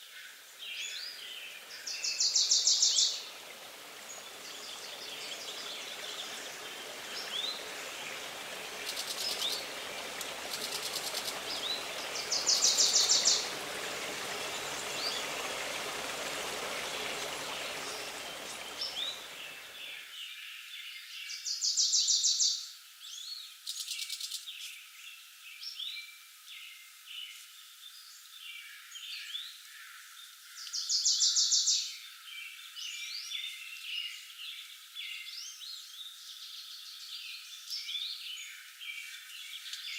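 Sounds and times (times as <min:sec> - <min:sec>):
loud high bird song: 0:00.0 - 0:39.9.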